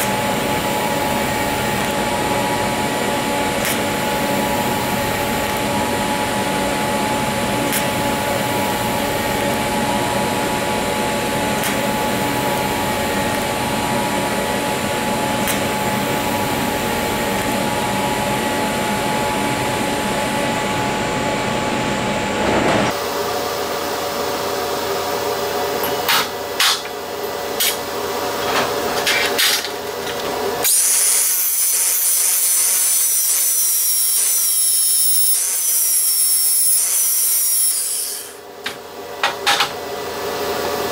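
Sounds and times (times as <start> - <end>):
shop machine hum: 0.0 - 40.9.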